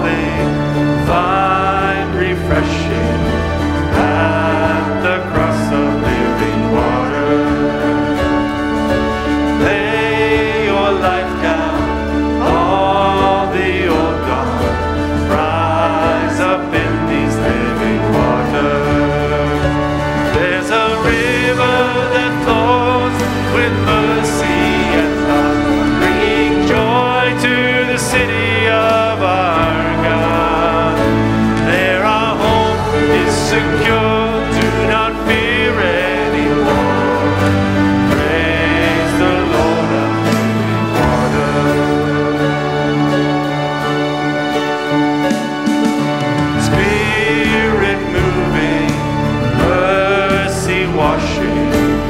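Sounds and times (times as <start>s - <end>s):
instrumental accompaniment: 0.0s - 52.0s
worship song singing: 0.0s - 52.0s.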